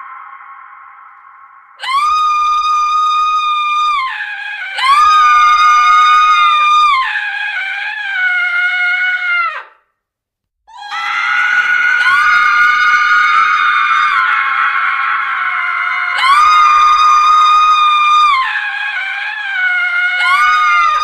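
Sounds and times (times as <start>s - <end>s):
woman screaming: 1.8s - 9.8s, 10.7s - 21.0s.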